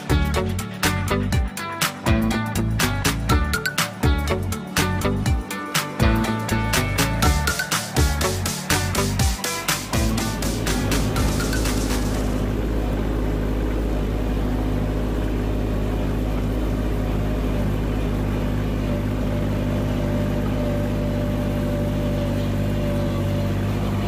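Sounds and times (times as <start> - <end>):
small vehicle engine running: 0.0 - 24.0.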